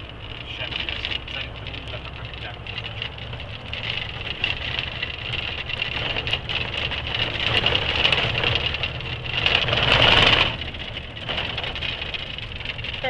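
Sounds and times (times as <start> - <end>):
cab rattling and knocking: 0.0 - 13.0
truck engine running: 0.0 - 13.0.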